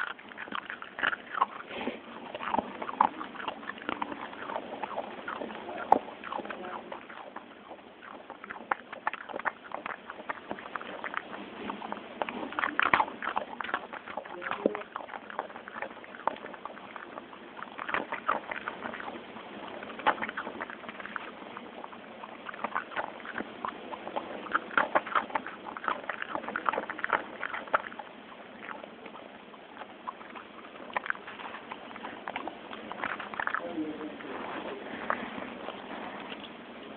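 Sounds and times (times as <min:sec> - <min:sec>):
dog chewing food crunchily: 0:00.0 - 0:36.9.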